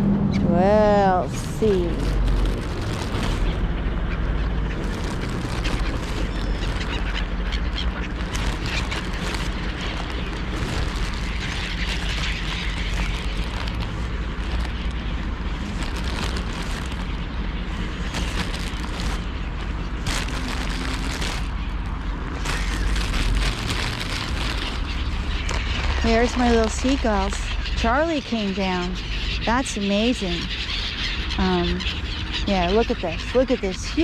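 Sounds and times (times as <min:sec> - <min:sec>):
wind rumbling on microphone: 0:00.0 - 0:34.0
seagulls squawking: 0:00.8 - 0:34.0.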